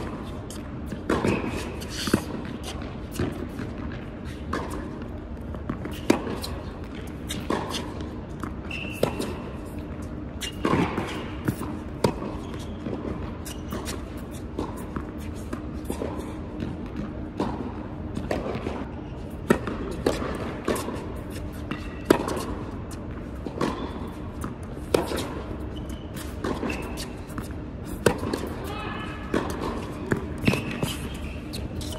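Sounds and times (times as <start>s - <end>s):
tennis balls struck by racquets: 0.0s - 28.7s, 29.3s - 31.9s
tennis balls bouncing on court: 0.0s - 31.9s.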